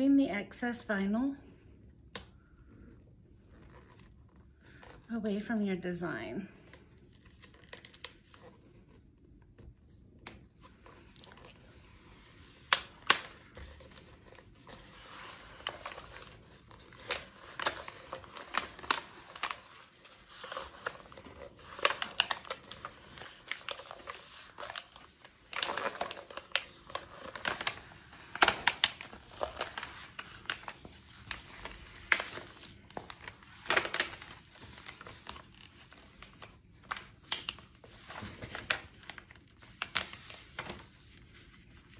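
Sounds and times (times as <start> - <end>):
vinyl film crinkling and snapping: 3.4 - 5.2, 6.6 - 41.9.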